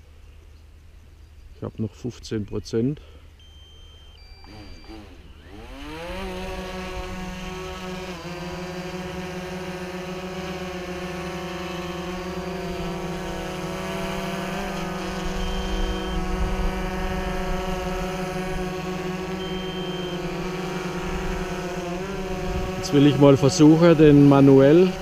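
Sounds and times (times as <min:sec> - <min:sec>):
drone propellers buzzing: 0:03.2 - 0:25.0.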